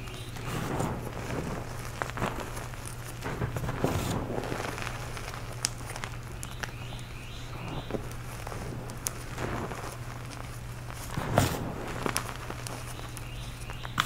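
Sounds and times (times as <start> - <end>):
clumps cracking: 0.0 - 14.0
powder crunching and pattering: 0.0 - 14.0
steady low hum: 0.0 - 14.0.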